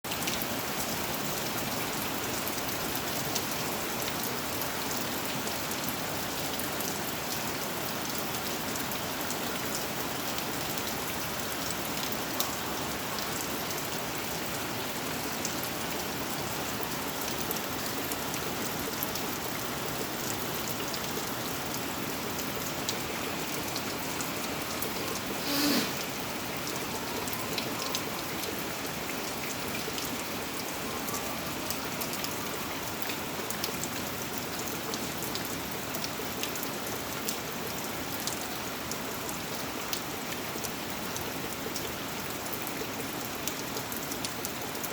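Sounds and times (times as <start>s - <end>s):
steady rain falling: 0.1s - 44.9s.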